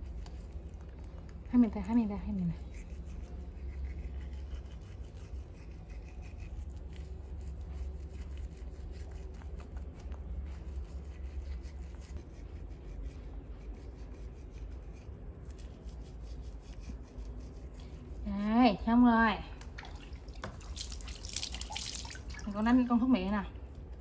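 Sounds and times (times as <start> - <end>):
toothbrush scrubbing teeth: 0.0 - 18.5, 20.2 - 22.8
steady low hum: 0.0 - 24.0.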